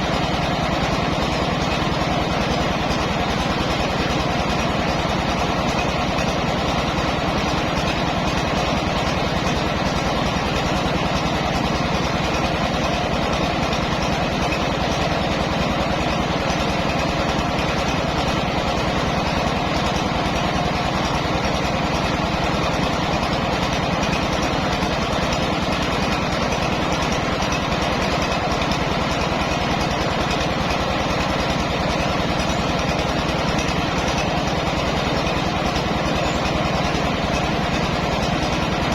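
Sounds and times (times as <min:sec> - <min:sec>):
rice milling machine running: 0:00.0 - 0:38.9.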